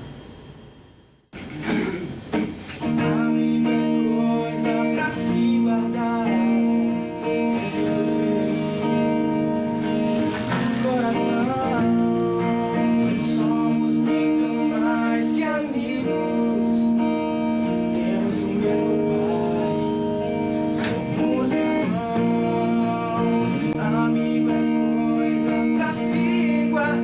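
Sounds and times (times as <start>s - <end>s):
strummed acoustic guitar: 1.4s - 27.0s
person singing: 2.8s - 27.0s.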